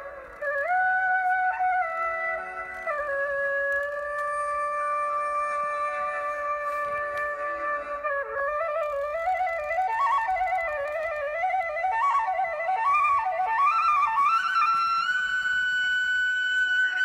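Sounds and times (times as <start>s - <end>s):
flute-like melody: 0.0s - 17.0s.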